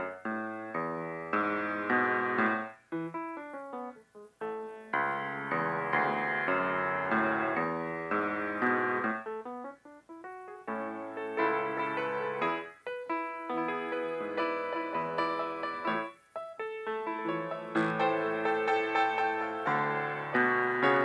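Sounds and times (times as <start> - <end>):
solo piano slow melody: 0.0 - 21.0.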